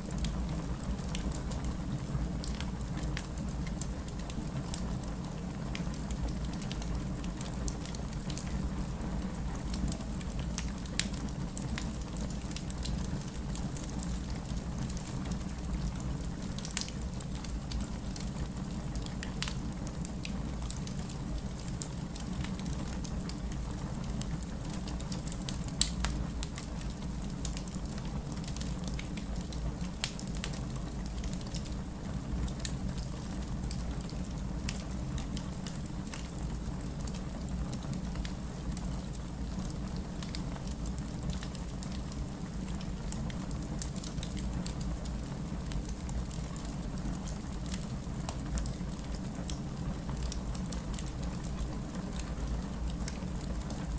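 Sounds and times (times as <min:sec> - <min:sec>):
fire crackles and pops: 0:00.0 - 0:53.9.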